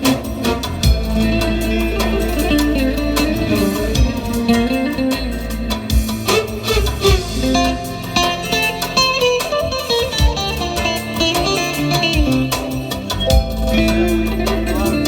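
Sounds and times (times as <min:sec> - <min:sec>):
low bass line: 0:00.0 - 0:15.0
plucked guitar: 0:00.0 - 0:15.0
sharp percussive hits: 0:00.0 - 0:15.0.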